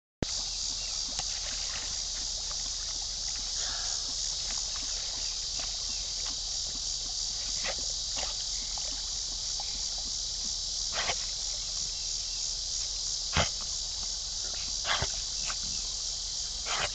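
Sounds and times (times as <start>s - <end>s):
insects chorus: 0.2s - 16.9s
dogs swimming: 0.3s - 12.6s, 13.2s - 16.9s.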